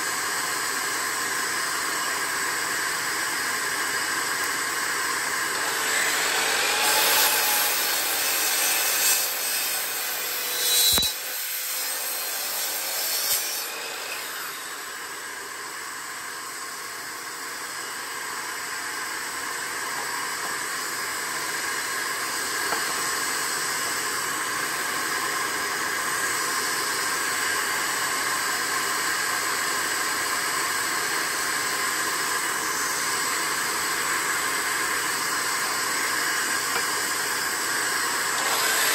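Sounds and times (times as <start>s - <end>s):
miter saw cutting wood: 0.0s - 38.9s
shop vacuum hissing: 0.0s - 38.9s.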